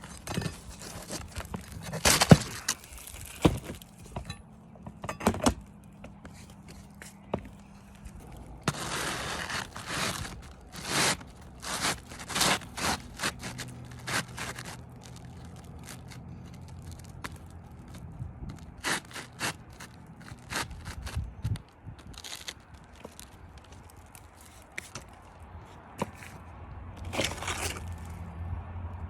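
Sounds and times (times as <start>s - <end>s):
roofing shingles scraping and tearing: 0.0s - 4.3s, 5.3s - 25.2s, 27.0s - 28.2s.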